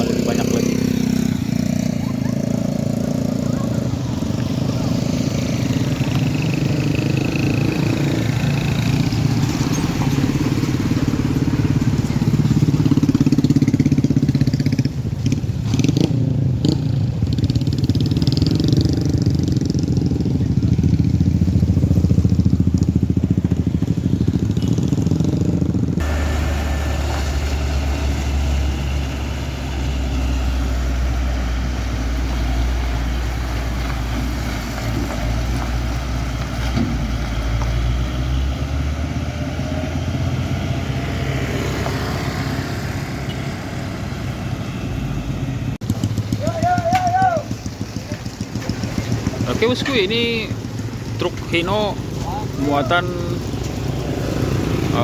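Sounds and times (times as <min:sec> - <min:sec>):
vehicle engines running: 0:00.0 - 0:55.0.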